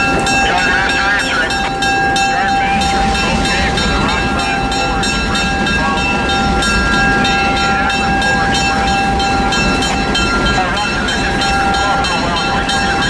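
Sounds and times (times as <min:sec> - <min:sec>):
bell ringing: 0:00.0 - 0:13.0
train low rumble: 0:00.0 - 0:13.0.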